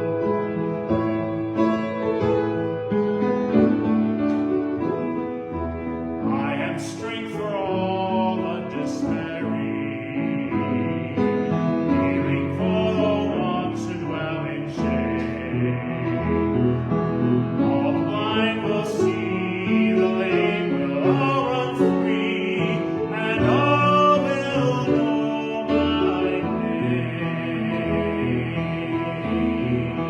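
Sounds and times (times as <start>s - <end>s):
slow sacred music: 0.0s - 30.0s.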